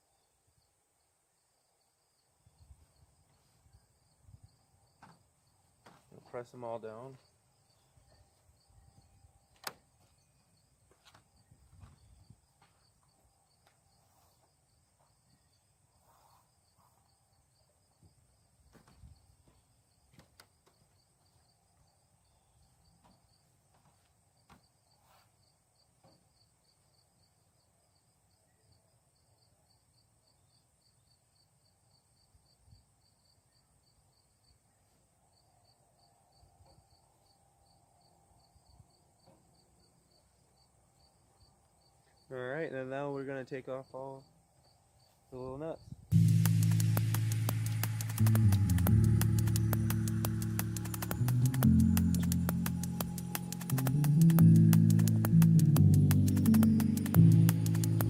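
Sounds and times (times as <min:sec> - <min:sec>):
faint crickets chirping: 0:00.0 - 0:53.7.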